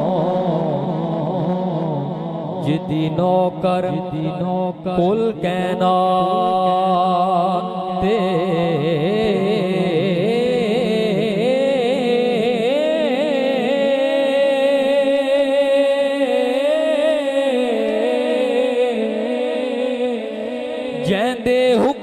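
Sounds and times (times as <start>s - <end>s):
person singing wordless melisma: 0.0s - 22.0s.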